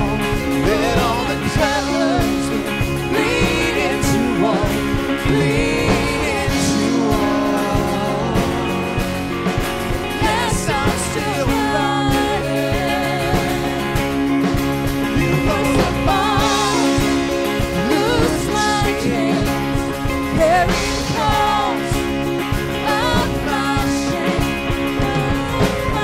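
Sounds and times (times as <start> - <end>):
woman singing: 0.0 - 9.2, 10.0 - 14.4, 15.2 - 26.0
live band with bass and drums: 0.0 - 26.0.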